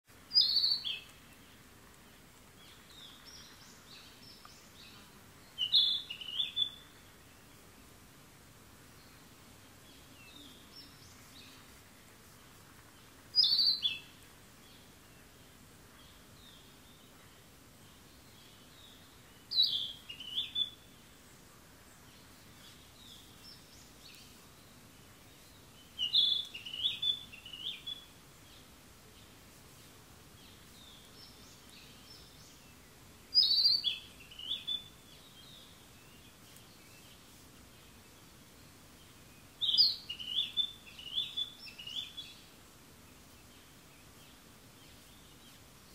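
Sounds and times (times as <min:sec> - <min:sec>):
background hiss: 0:00.0 - 0:45.9
songbird singing: 0:00.0 - 0:45.9
faint bird chirps: 0:00.3 - 0:07.6, 0:08.9 - 0:29.3, 0:30.4 - 0:45.9.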